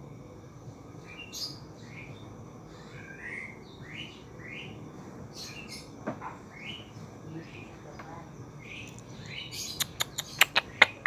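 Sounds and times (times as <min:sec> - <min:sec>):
small bird chirping: 0:01.0 - 0:11.0.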